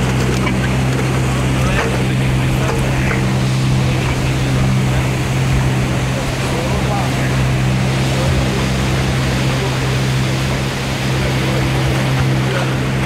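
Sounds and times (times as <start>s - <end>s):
motorboat engine running: 0.0s - 13.0s
rushing river water: 0.0s - 13.0s.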